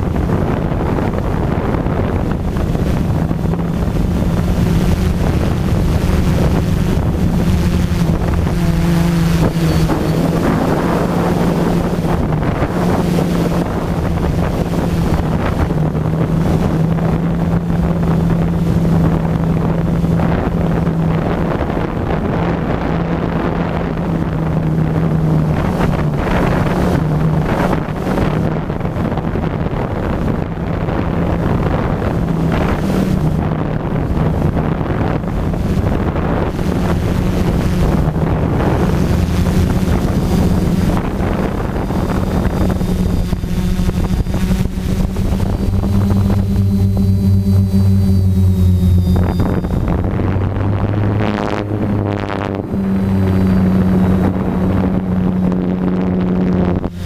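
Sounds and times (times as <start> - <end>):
drone motors humming: 0.0 - 57.0
wind buffeting microphone: 0.0 - 57.0.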